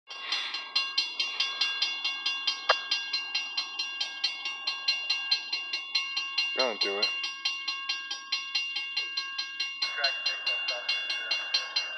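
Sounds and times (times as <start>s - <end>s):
crossing bell ringing rapidly: 0.1s - 11.9s.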